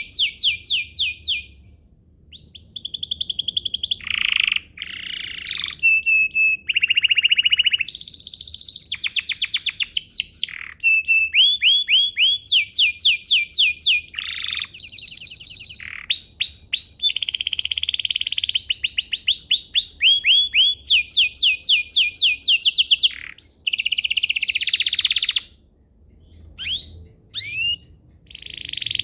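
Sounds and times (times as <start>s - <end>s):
canary singing trills: 0.0s - 1.6s, 2.3s - 25.6s, 26.3s - 29.0s.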